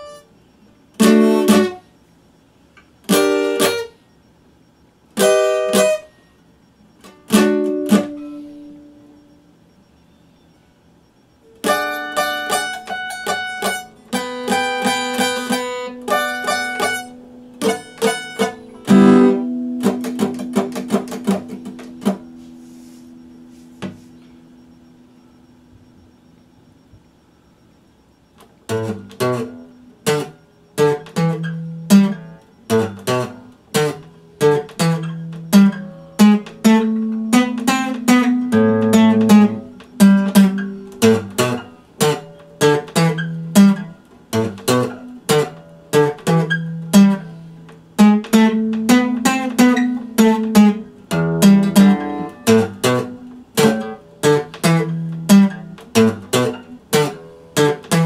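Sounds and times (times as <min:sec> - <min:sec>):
acoustic guitar strumming: 0:00.0 - 0:01.9, 0:02.9 - 0:04.1, 0:05.0 - 0:09.6, 0:11.4 - 0:26.3, 0:28.3 - 0:58.0.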